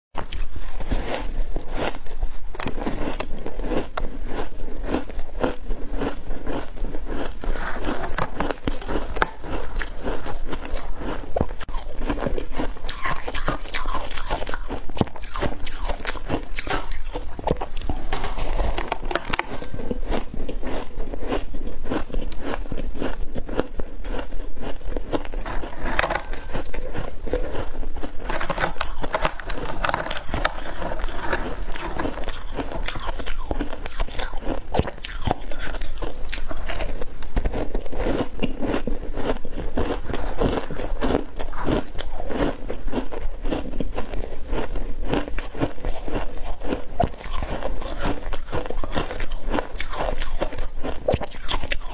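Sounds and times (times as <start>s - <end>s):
chewing crunching ice: 0.2s - 51.9s.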